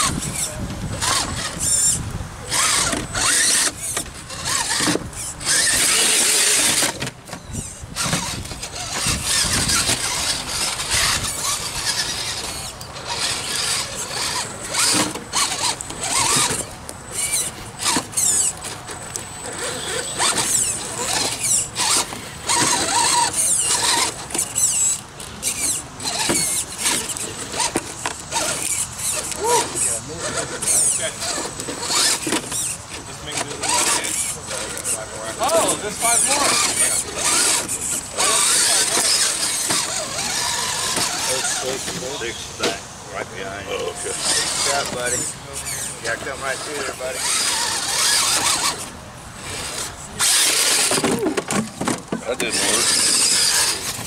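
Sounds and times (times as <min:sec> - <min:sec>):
electric motor whining: 0:00.0 - 0:42.6, 0:43.5 - 0:54.0.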